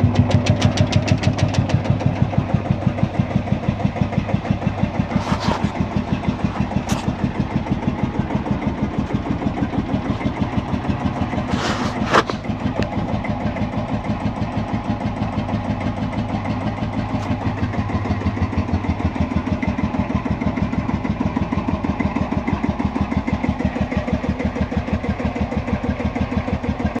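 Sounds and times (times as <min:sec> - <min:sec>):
tractor diesel idling: 0:00.0 - 0:27.0.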